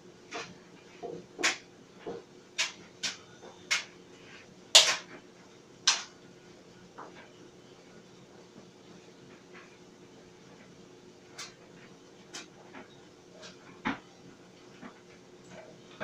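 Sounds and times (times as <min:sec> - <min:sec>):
clothes dryer humming: 0:00.0 - 0:16.0.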